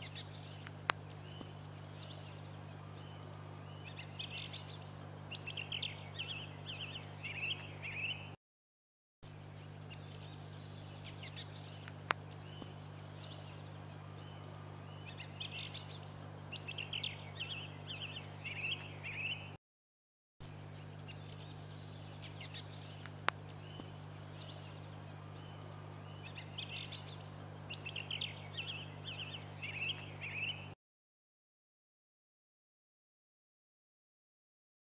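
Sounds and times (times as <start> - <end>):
song thrush singing: 0.0 - 8.4, 9.2 - 19.6, 20.4 - 30.8
steady low hum: 0.0 - 8.4, 9.3 - 19.6, 20.4 - 30.8.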